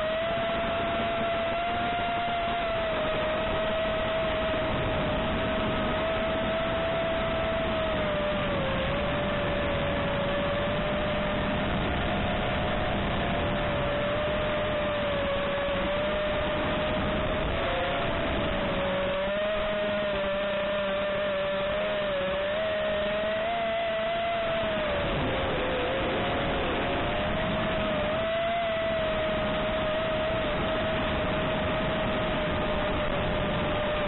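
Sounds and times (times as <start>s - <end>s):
propeller and wind rush: 0.0s - 34.0s
quadcopter motors whining: 0.0s - 34.0s.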